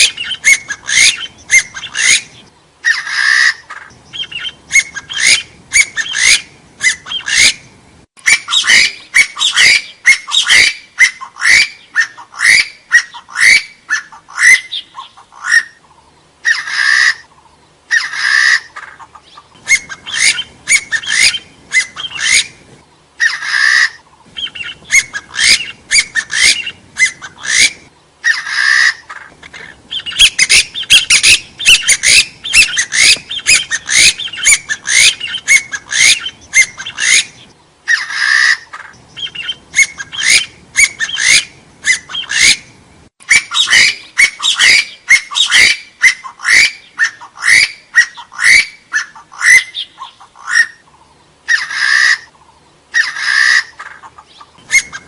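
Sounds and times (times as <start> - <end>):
partridge calling: 0.0 - 55.0.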